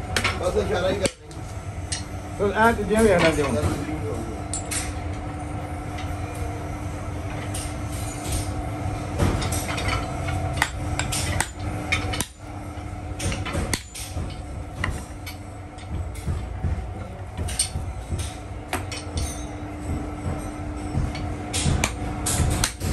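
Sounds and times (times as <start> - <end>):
steady hum: 0.0 - 22.9.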